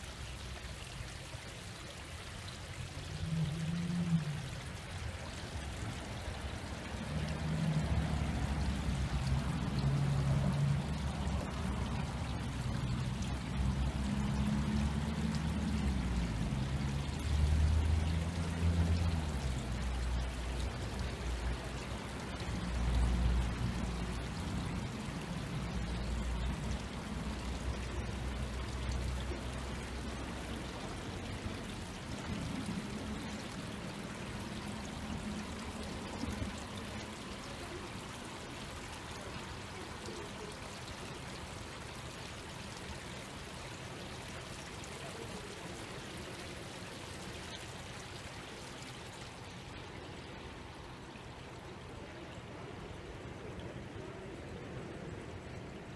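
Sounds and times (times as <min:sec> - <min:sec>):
stream babbling over a weir: 0:00.0 - 0:55.9.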